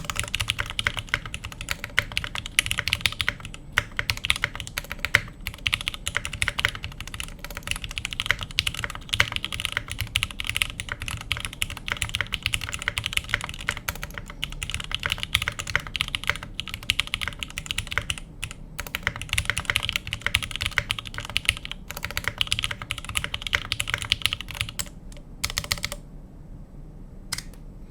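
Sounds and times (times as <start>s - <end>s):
computer keyboard typing: 0.0s - 26.0s.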